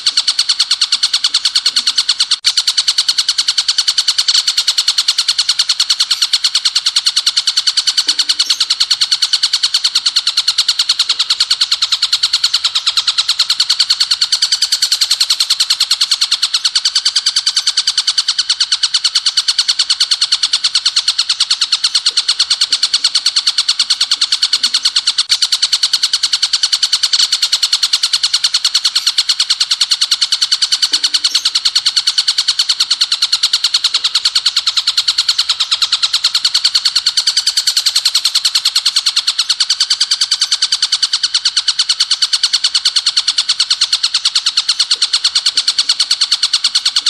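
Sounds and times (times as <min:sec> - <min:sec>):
bird singing rapid shrill notes: 0:00.0 - 0:47.0.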